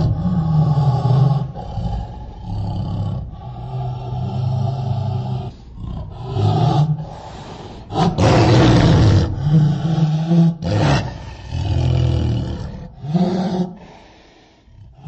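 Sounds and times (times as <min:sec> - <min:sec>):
deep creature roars: 0:00.0 - 0:14.0.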